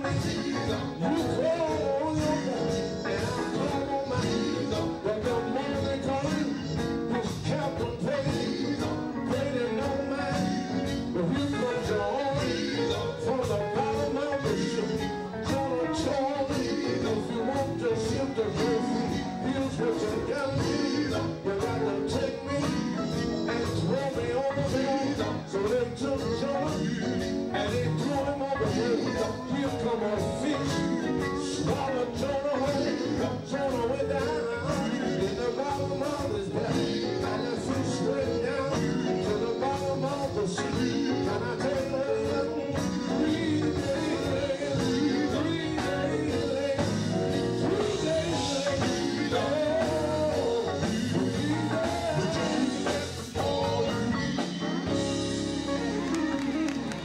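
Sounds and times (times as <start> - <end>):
band playing: 0.0 - 57.0
gospel group singing: 0.0 - 57.0.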